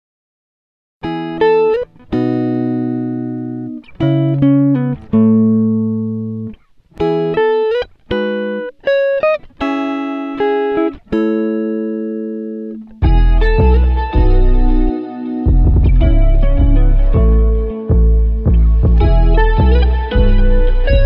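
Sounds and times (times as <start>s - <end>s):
plucked guitar chords: 1.0s - 21.0s.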